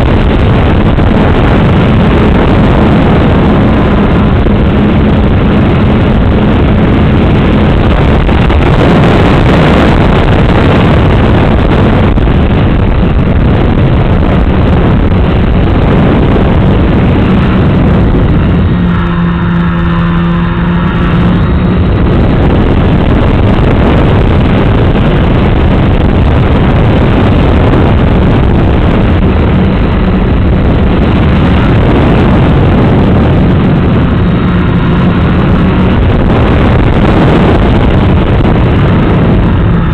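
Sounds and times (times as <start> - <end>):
wind rushing: 0.0 - 39.9.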